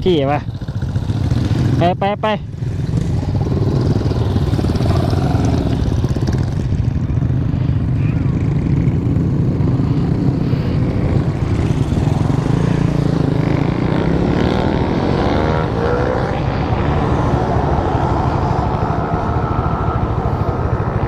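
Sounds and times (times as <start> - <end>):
motorcycle engine accelerating: 0.1 - 21.0
wind rushing over microphone: 2.5 - 21.0.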